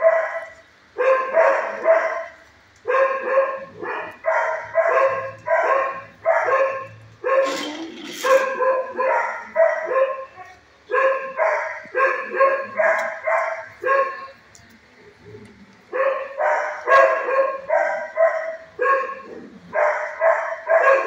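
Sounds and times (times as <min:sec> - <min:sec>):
dog barking: 0:00.0 - 0:14.4, 0:15.9 - 0:21.0.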